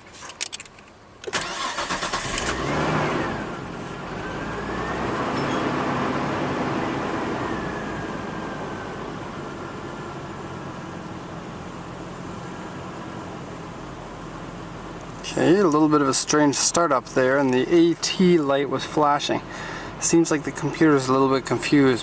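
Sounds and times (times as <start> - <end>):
car engine revving and idling: 1.4 - 22.0.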